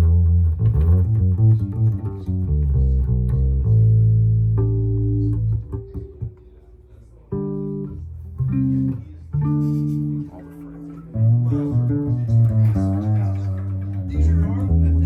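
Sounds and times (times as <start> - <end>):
electric bass guitar notes: 0.0 - 15.0.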